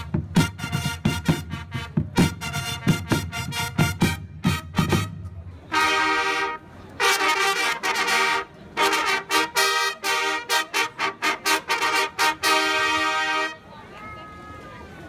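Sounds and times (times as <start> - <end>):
trumpets playing a fanfare: 0.0 - 13.7.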